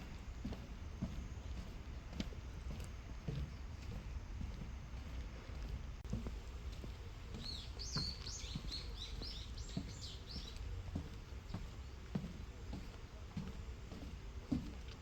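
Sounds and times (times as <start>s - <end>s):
soft footsteps on a path: 0.0s - 15.0s.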